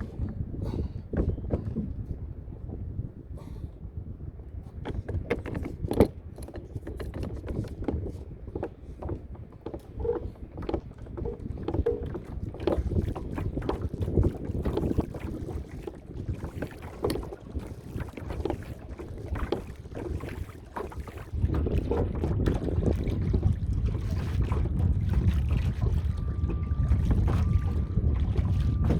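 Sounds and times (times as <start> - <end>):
water slapping against hull: 0.0 - 28.9
wind buffeting microphone: 0.0 - 28.9
small knocks on hull: 1.1 - 2.2, 4.8 - 28.9.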